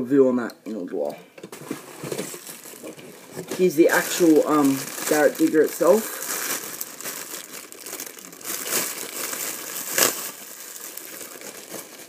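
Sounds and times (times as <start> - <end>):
plastic bag crinkling: 1.5 - 12.0.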